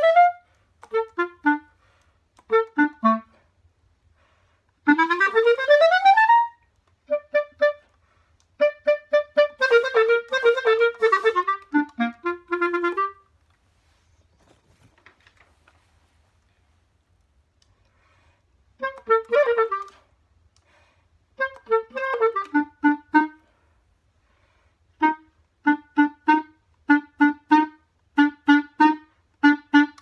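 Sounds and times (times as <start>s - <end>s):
solo clarinet: 0.0s - 14.6s, 18.7s - 30.0s.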